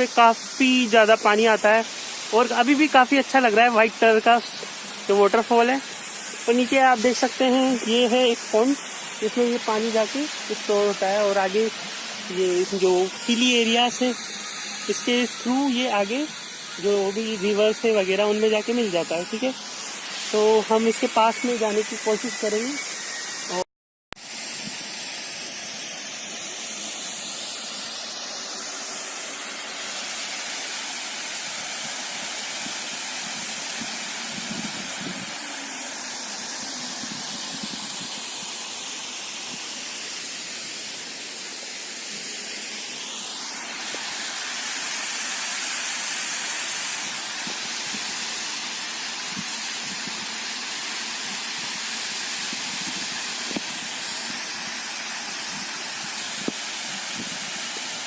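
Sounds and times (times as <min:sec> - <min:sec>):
waterfall rushing: 0:00.0 - 0:23.6, 0:24.2 - 0:58.0.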